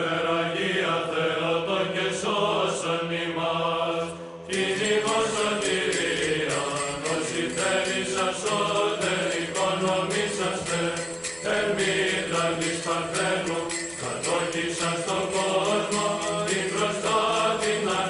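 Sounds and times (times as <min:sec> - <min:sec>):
voices chanting a slow melody: 0:00.0 - 0:18.0.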